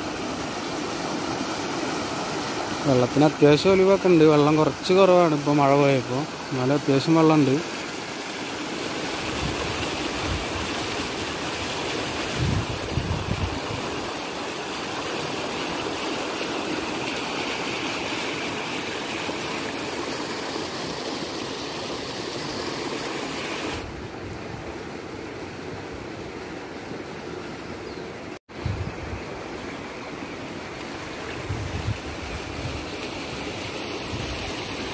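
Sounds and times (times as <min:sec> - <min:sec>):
stream rushing over stones: 0:00.0 - 0:34.9.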